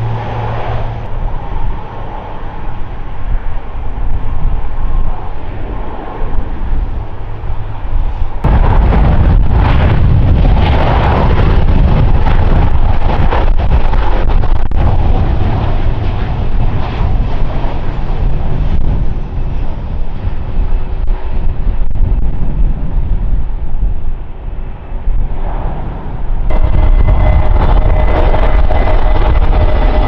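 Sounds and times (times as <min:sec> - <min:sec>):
jet engine whine: 0:00.0 - 0:30.0
jet engines rumbling: 0:00.0 - 0:30.0.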